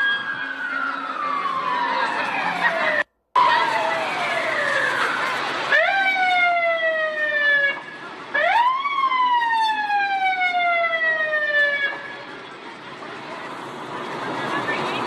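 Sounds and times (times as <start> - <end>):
police siren: 0.0 - 12.6.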